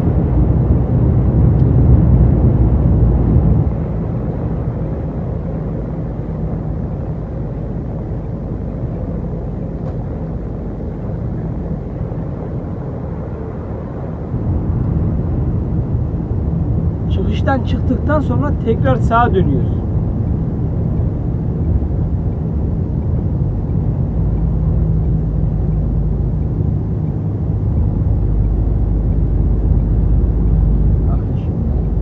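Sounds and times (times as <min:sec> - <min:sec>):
truck diesel engine drone: 0:00.0 - 0:32.0.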